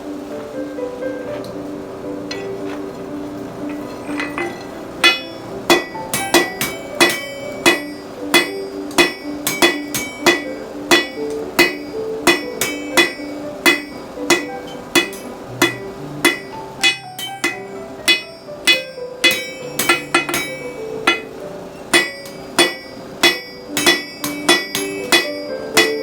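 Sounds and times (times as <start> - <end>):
background music: 0.0 - 26.0
hammer striking steel on anvil: 2.3 - 2.8, 3.6 - 26.0.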